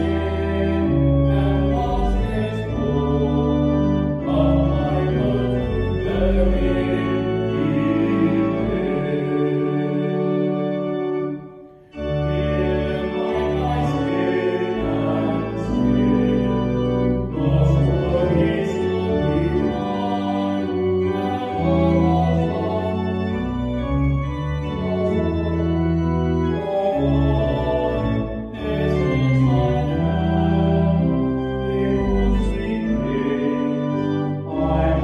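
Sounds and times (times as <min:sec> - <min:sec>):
organ chords: 0:00.0 - 0:35.0.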